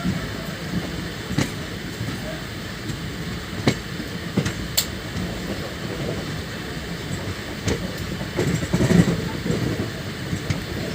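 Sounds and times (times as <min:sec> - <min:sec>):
train rumbling on rails: 0:00.0 - 0:10.9.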